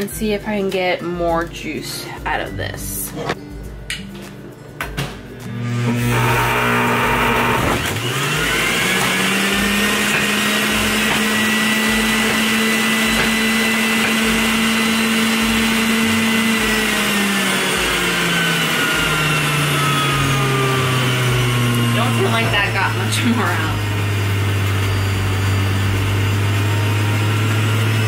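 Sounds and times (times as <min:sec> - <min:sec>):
juicer motor whining: 0:05.4 - 0:28.0.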